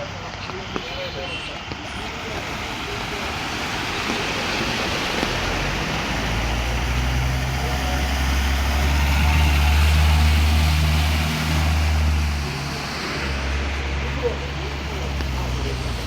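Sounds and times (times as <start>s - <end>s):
motor engine humming: 0.0s - 16.0s
steady rushing noise: 0.0s - 16.0s.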